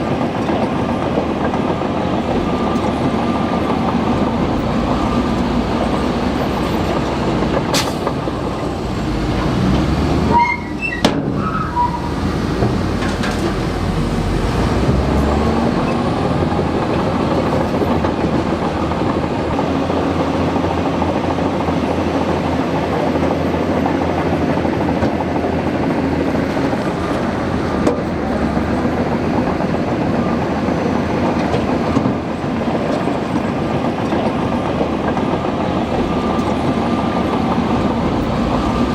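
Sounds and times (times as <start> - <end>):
bulldozer engine and tracks: 0.0 - 38.9.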